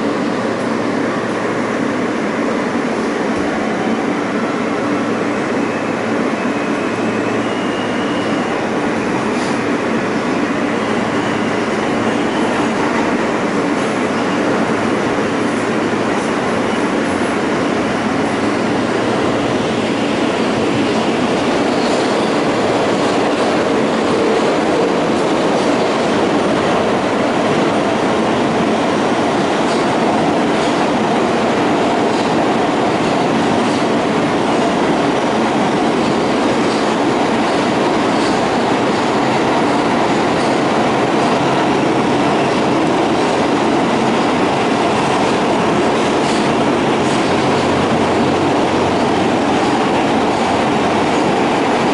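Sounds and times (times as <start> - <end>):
wheels rumbling on rail: 0.0 - 51.9.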